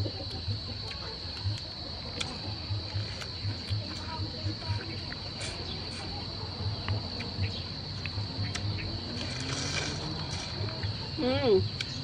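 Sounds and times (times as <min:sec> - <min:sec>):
insects chirring: 0:00.0 - 0:12.0
soft chewing: 0:00.1 - 0:11.0.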